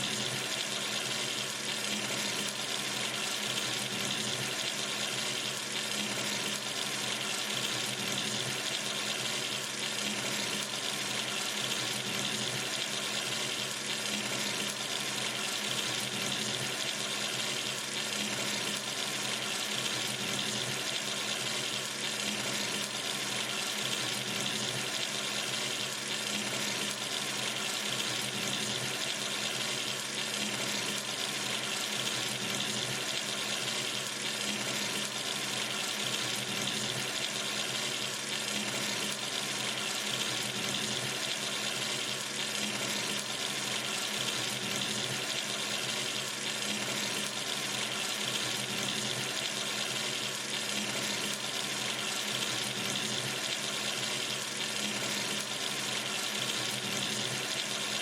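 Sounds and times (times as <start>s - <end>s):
tap water running into sink: 0.0s - 58.0s.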